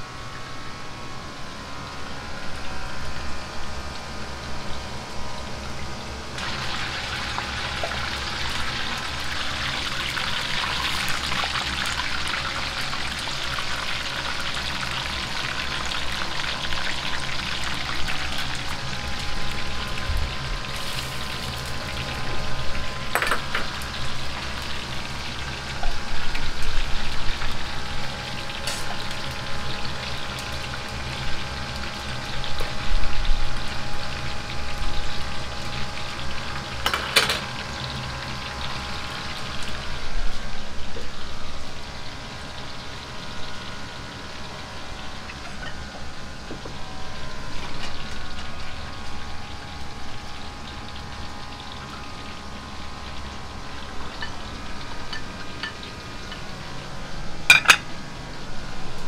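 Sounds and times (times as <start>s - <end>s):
chicken deep-frying in oil: 0.0s - 59.0s.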